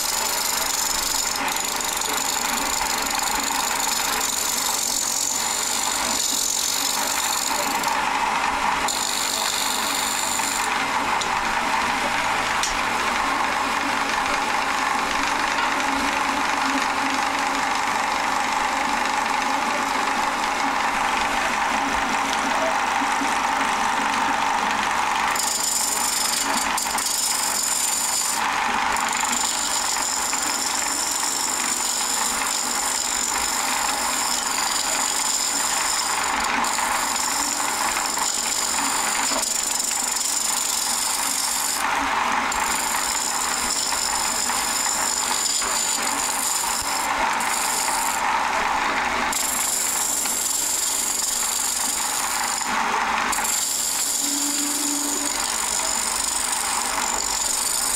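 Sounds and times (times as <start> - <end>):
lathe running: 0.0 - 57.9.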